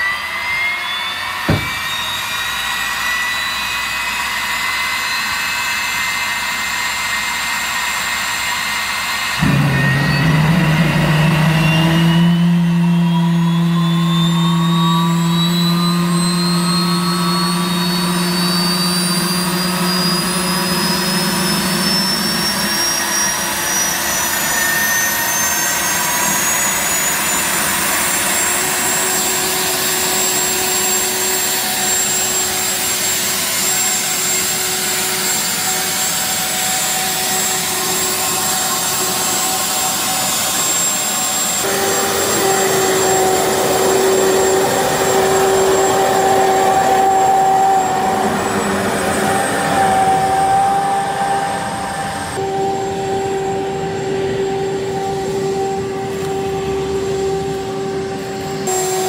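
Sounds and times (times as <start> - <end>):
jet engine whine: 0.0 - 59.0.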